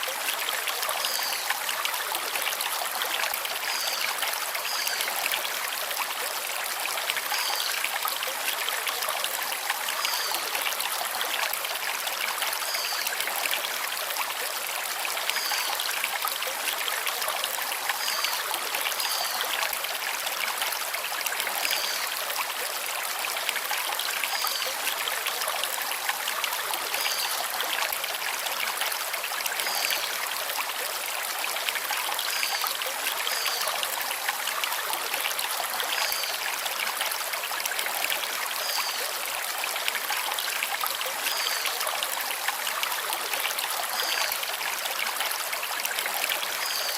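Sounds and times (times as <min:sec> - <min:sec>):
stream flowing over stones: 0:00.0 - 0:46.9.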